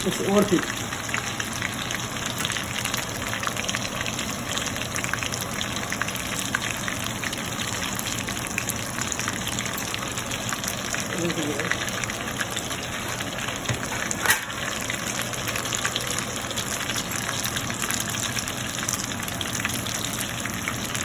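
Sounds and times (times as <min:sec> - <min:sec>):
food deep-frying in hot oil: 0:00.0 - 0:21.0.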